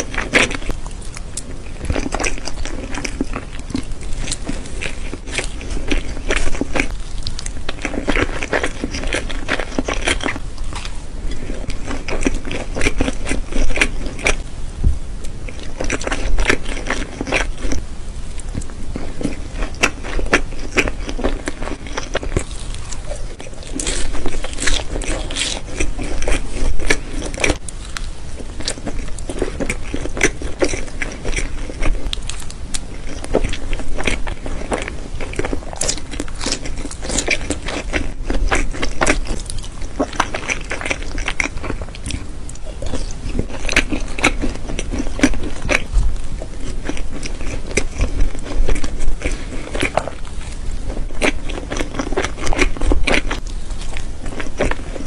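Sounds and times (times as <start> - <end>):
chewing and wet mouth sounds: 0.0 - 14.4, 15.2 - 55.0.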